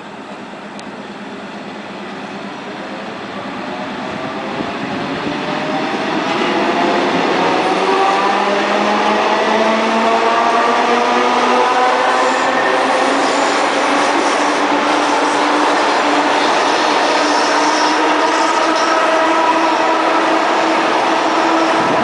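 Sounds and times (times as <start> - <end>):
rumble of train cars: 0.0 - 22.0.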